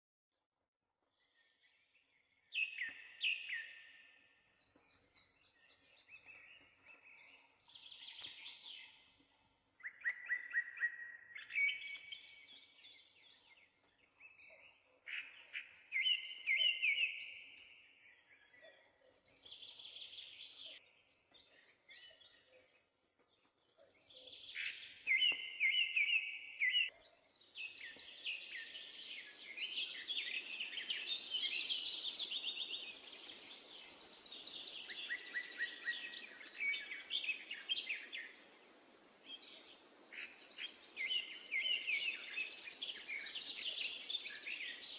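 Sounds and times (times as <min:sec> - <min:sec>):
birds singing and chirping: 0:01.2 - 0:44.9.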